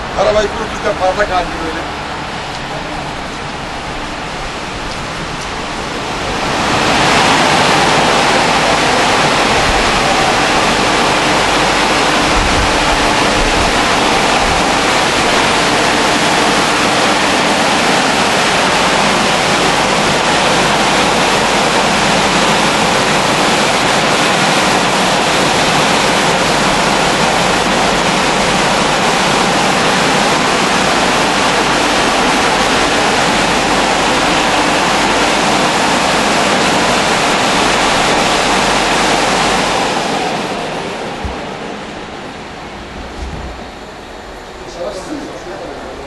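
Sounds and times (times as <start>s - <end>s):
car wash dryer blowers: 0.0s - 46.0s.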